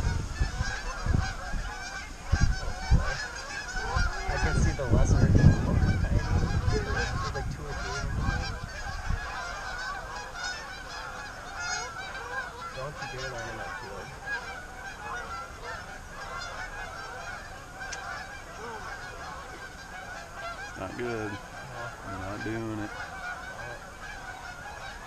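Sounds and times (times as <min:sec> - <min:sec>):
geese honking: 0:00.0 - 0:25.0.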